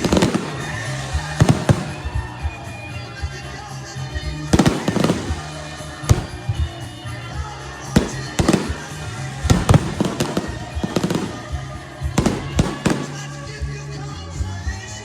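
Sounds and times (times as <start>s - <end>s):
fireworks bangs and crackling: 0.0s - 13.8s
background music: 0.0s - 15.0s.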